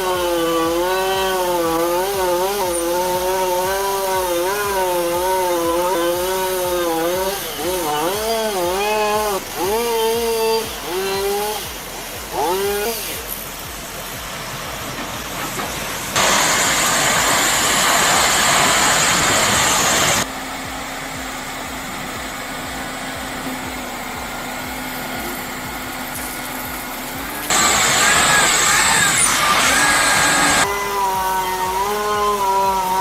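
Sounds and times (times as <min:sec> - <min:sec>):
engine-driven machinery running: 0:00.0 - 0:33.0.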